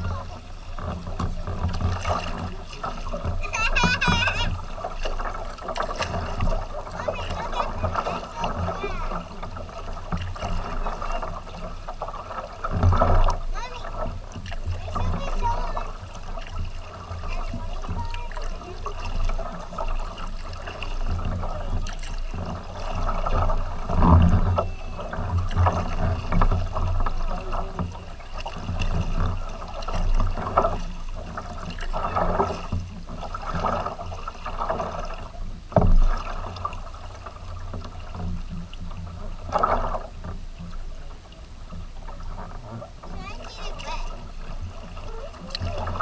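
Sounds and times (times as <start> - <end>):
kayak paddles splashing water: 0.0 - 46.0
water washing along hull: 0.0 - 46.0.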